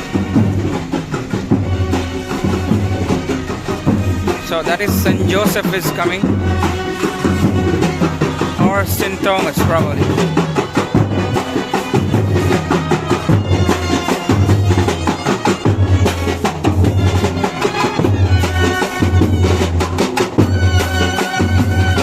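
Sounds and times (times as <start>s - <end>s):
reedy wind instrument melody: 0.0s - 22.0s
repeating drum beat: 0.0s - 22.0s.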